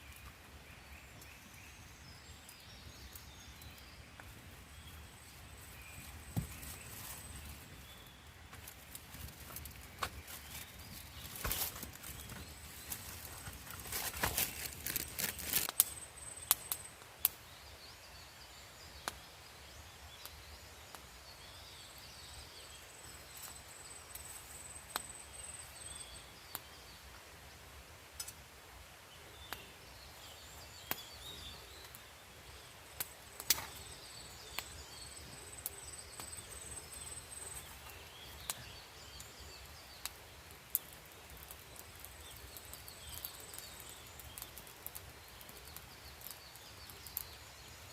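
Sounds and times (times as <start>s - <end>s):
campfire crackling and popping: 0.1s - 17.8s, 18.8s - 28.6s, 29.4s - 47.9s.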